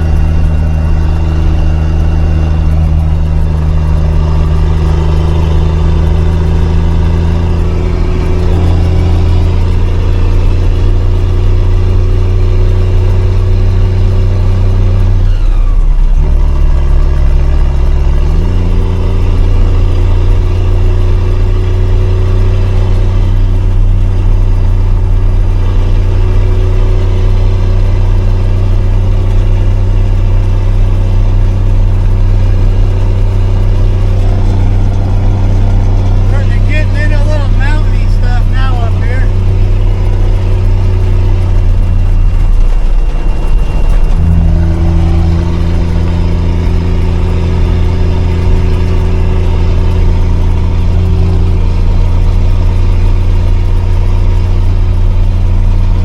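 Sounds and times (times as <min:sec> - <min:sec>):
truck engine under load: 0:00.0 - 0:56.0.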